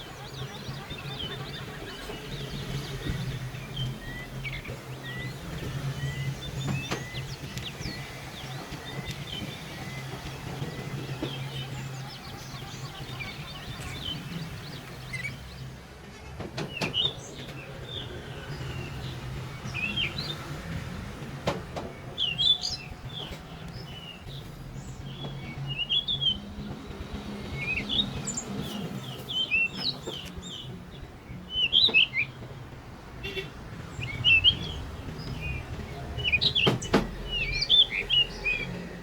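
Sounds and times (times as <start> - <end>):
small birds chirping: 0.0 - 15.9, 16.6 - 39.0.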